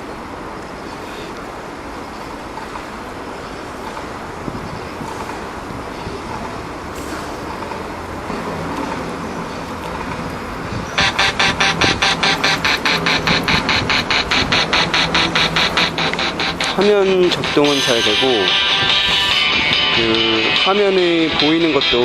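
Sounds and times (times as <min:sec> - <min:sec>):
faint steady tones: 0:00.0 - 0:22.0
traffic road noise: 0:00.0 - 0:22.0.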